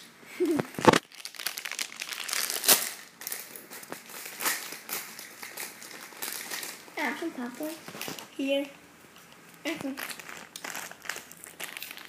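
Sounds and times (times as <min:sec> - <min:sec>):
popcorn bag crinkling: 0:00.7 - 0:08.4, 0:09.7 - 0:12.0.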